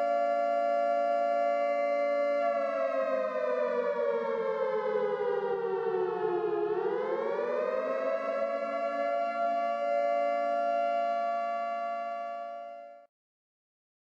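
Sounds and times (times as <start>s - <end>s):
warning siren chord: 0.0s - 13.1s.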